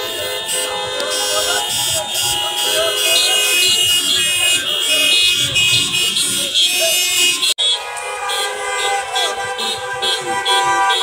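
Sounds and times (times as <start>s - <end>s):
car horns honking: 0.0s - 11.0s.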